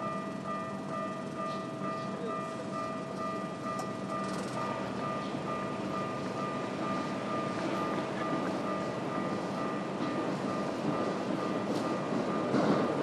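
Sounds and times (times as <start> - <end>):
level crossing alarm ringing: 0.0 - 13.0
train running: 0.0 - 13.0.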